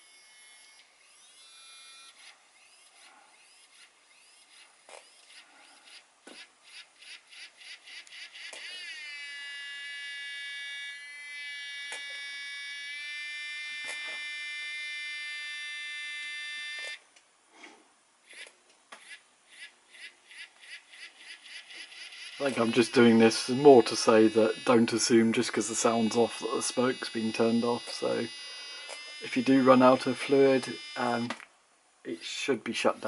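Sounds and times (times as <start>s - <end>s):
small electric fan whining: 0.0s - 17.0s, 19.0s - 33.0s.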